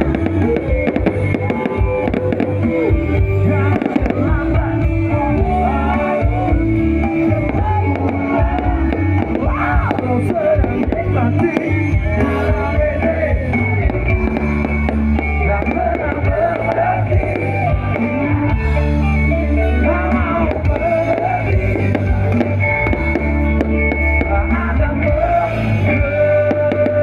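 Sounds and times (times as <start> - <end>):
bass guitar: 0.0 - 27.0
drum kit: 0.0 - 27.0
electric guitar: 0.0 - 27.0.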